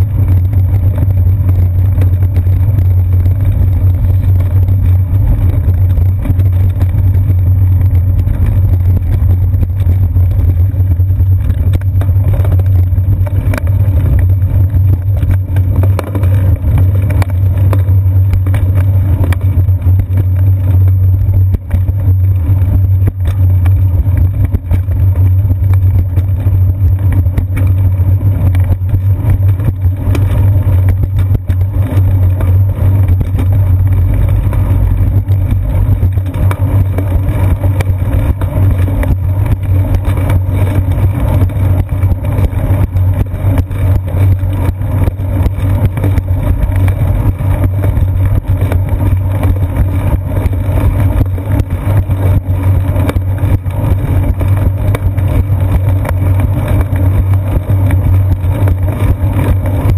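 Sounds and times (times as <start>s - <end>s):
bicycle frame knocks and rattles: 0.0s - 59.9s
bicycle tyres rumbling: 0.0s - 59.9s.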